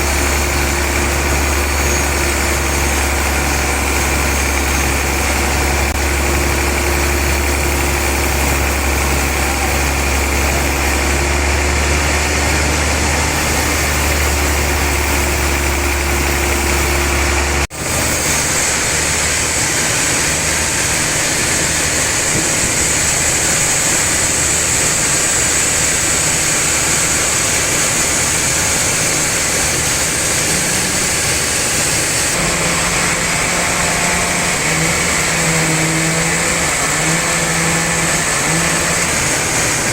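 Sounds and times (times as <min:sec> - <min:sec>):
machinery hiss: 0:00.0 - 0:39.9
sawmill machinery low hum: 0:00.0 - 0:39.9.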